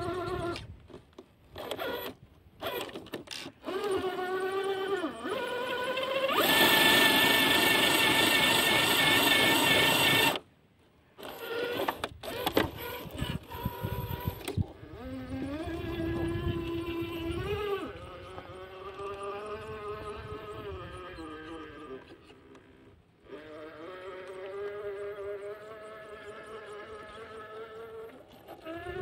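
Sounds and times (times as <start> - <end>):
electric motor and gearbox whining: 0.0 - 10.5, 11.2 - 29.0.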